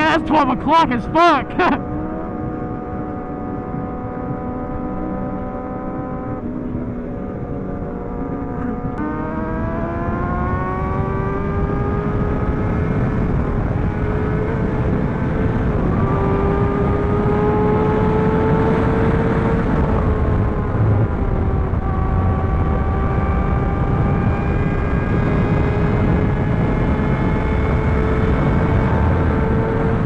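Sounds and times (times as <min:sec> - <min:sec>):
motorcycle engine accelerating: 0:00.0 - 0:30.0
wind rumble on microphone: 0:00.0 - 0:30.0.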